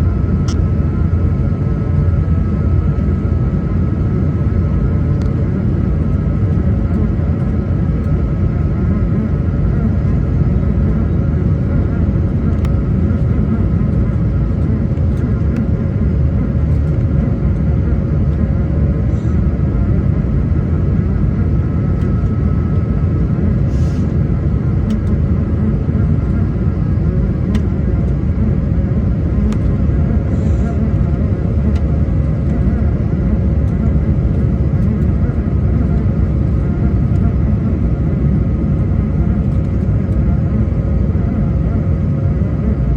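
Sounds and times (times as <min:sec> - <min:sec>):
aircraft engine and airflow rumble: 0:00.0 - 0:42.9
steady whine: 0:00.0 - 0:42.9.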